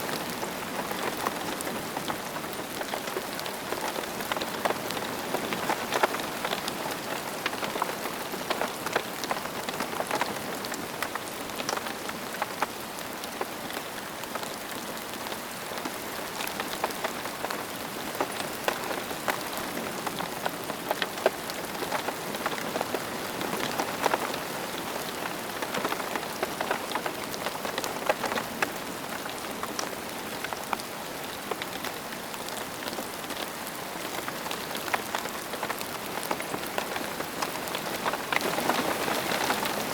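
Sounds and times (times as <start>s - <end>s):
raindrops ticking and splashing: 0.0s - 39.9s
steady rain hiss: 0.0s - 39.9s.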